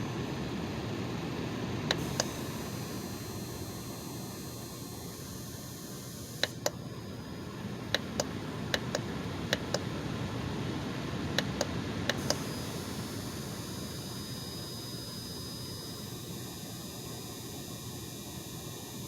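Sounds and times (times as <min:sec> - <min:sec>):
space heater fan running: 0:00.0 - 0:19.0.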